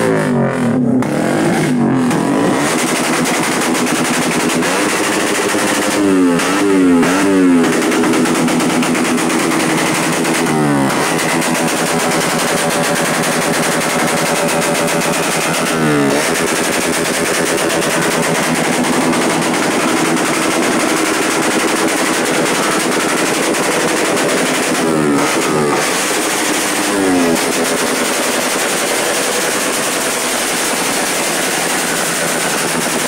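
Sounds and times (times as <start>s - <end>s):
exhaust backfire crackling: 0.0s - 33.0s
motorcycle engine revving: 0.0s - 33.0s.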